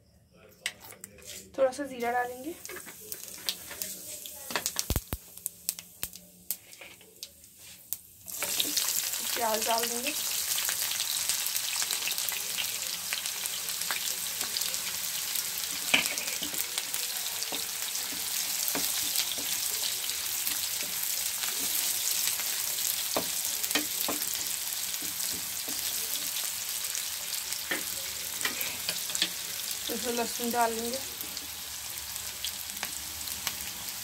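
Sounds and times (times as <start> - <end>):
onions sizzling in frying pan: 1.3 - 34.0.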